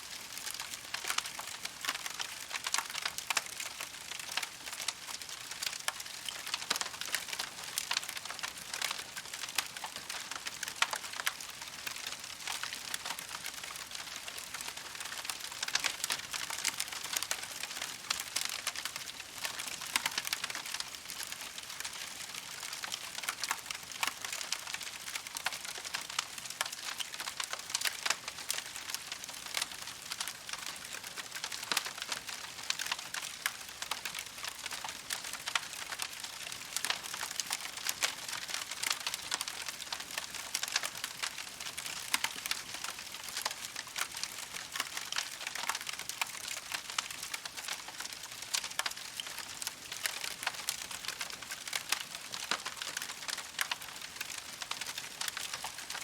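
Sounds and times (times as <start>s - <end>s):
campfire crackling: 0.1s - 56.0s.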